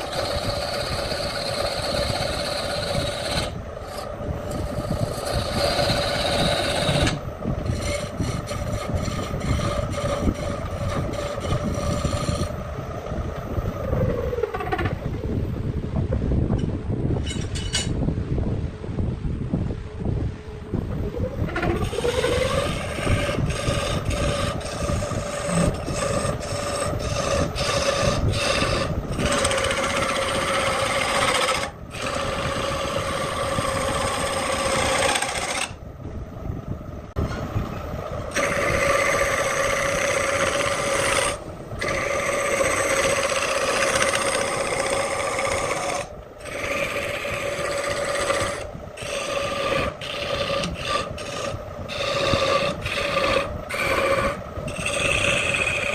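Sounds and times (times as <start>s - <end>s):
turning tool scraping wood: 0.0s - 12.6s, 14.1s - 15.0s, 21.4s - 35.8s, 38.2s - 55.9s
wood lathe humming: 0.0s - 15.0s, 20.9s - 35.8s, 37.2s - 55.9s.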